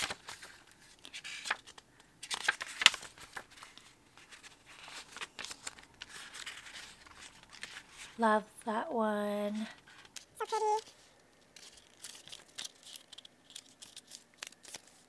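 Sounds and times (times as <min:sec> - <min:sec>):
paper pages rustling: 0:00.0 - 0:08.2, 0:09.5 - 0:15.0.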